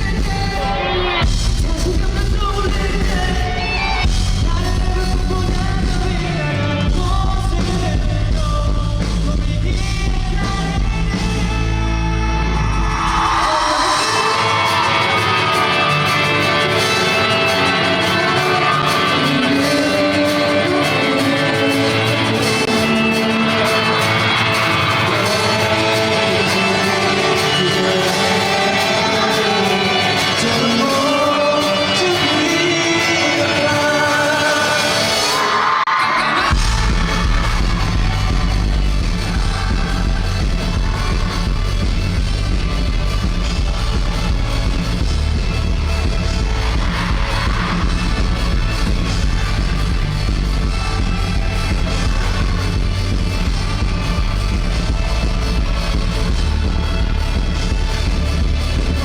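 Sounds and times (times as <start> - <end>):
live rock band: 0.0 - 59.0
person singing: 0.0 - 59.0.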